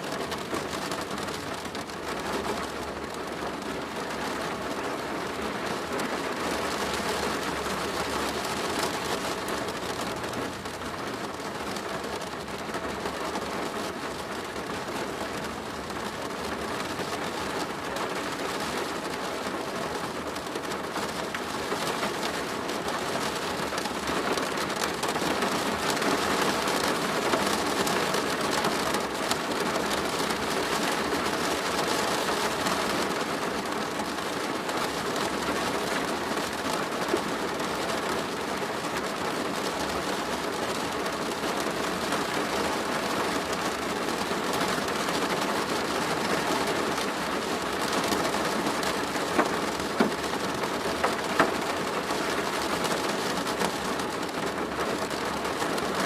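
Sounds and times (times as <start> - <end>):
rain drumming on a plastic roof: 0.0 - 56.0.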